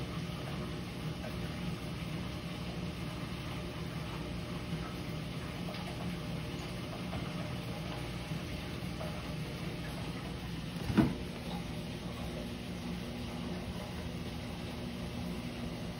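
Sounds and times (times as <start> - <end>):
aquarium filter humming: 0.0 - 15.9
water noise: 0.0 - 15.9.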